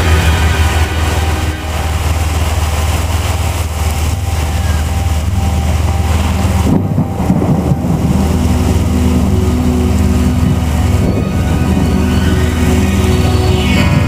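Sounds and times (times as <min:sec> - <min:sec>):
heavy rain on a car: 0:00.0 - 0:12.6
car engine drone: 0:00.0 - 0:14.0.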